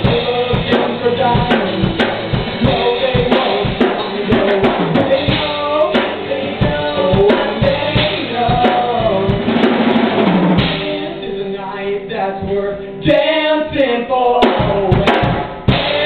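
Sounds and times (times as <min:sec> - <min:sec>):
drum kit beat: 0:00.0 - 0:16.0
rock band playing: 0:00.0 - 0:16.0.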